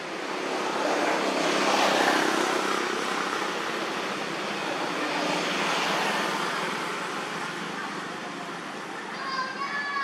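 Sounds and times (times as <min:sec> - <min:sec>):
road traffic rushing: 0:00.0 - 0:10.0.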